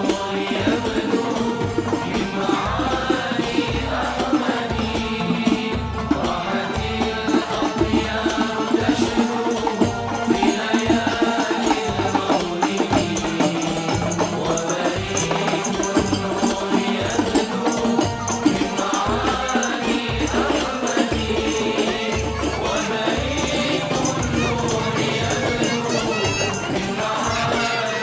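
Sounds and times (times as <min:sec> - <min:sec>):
hand percussion beat: 0:00.0 - 0:28.0
voices singing: 0:00.0 - 0:28.0.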